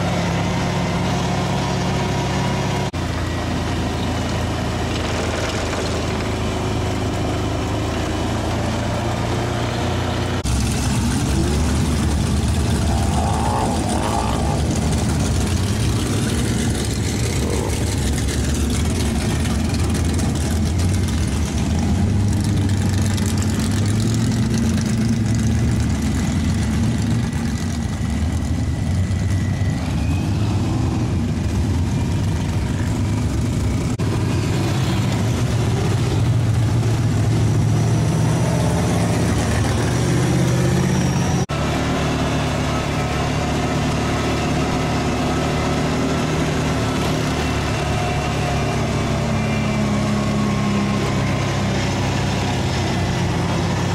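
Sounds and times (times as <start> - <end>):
truck engines droning: 0.0 - 53.9.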